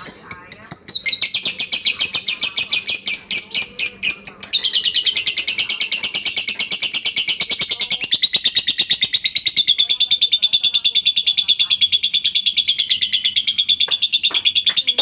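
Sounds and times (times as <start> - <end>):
lovebird trilling: 0.0 - 15.0.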